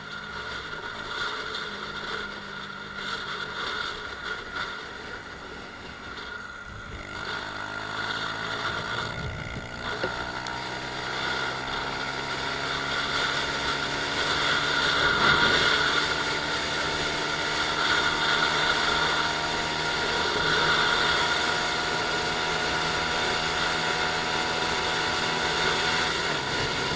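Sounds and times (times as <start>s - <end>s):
motorcycle engine accelerating: 0.0s - 26.9s
wind and road noise: 0.0s - 26.9s.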